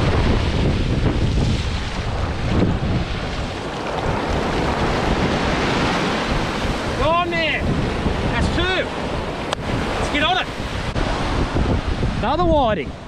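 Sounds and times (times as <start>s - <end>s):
surf breaking on sand: 0.0s - 13.0s
wind buffeting microphone: 0.0s - 13.0s.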